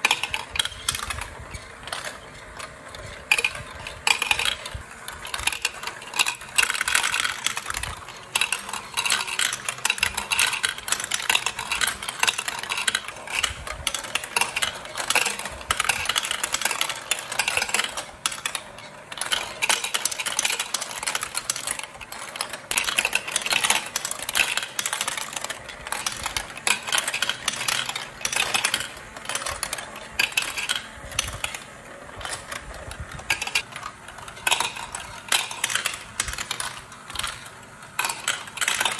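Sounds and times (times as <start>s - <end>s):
plastic balls clicking on tracks: 0.0s - 38.9s.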